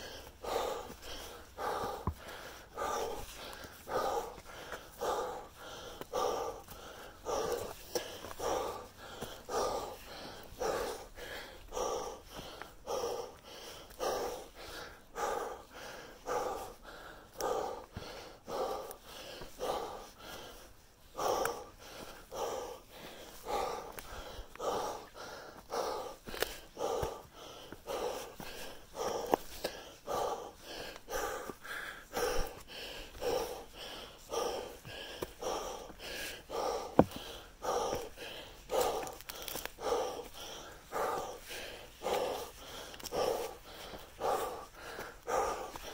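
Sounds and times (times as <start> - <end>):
person breathing heavily: 0.0 - 45.9.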